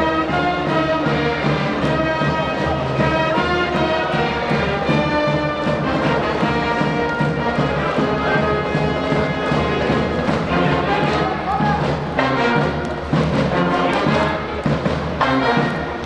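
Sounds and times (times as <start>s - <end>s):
brass band playing: 0.0s - 16.0s
steady drum beat: 0.0s - 16.0s.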